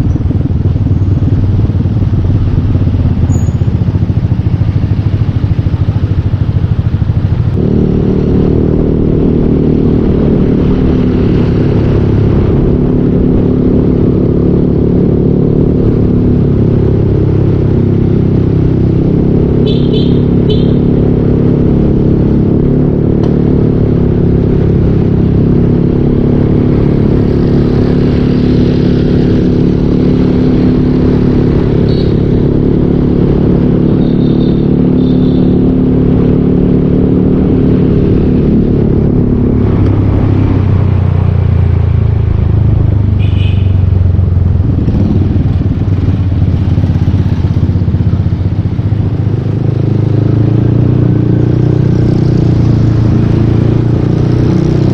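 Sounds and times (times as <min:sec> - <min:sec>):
scooter engine running: 0:00.0 - 0:18.0, 0:18.8 - 0:54.9.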